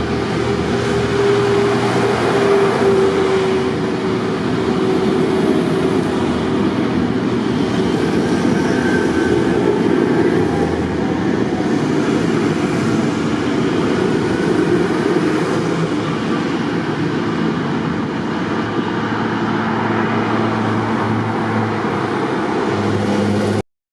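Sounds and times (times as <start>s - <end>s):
tractor engines rumbling: 0.0s - 23.6s.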